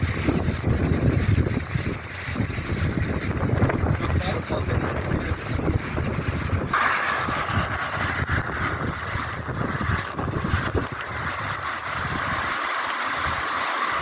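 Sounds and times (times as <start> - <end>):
stream rushing over rocks: 0.0 - 14.0
wind buffeting microphone: 0.0 - 14.0.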